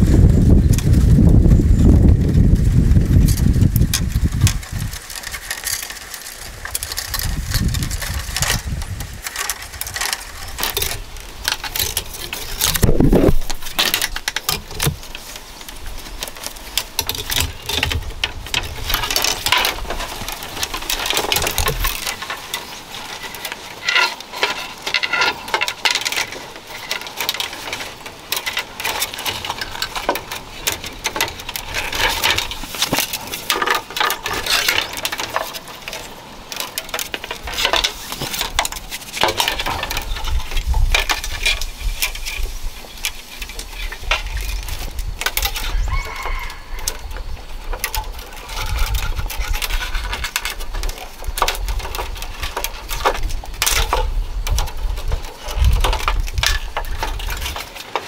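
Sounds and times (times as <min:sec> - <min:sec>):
bamboo strips clicking and rustling: 0:00.0 - 0:58.0.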